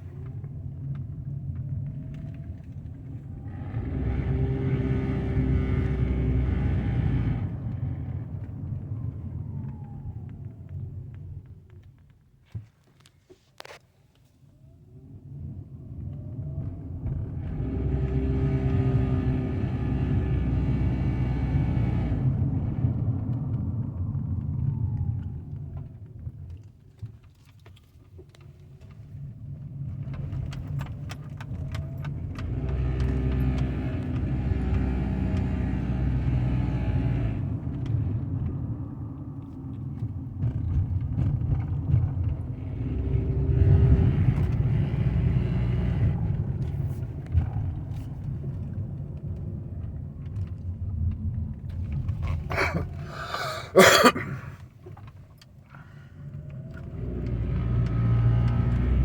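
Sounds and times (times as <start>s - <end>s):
low buzzing rumble of car: 0.0s - 12.1s, 14.6s - 59.0s.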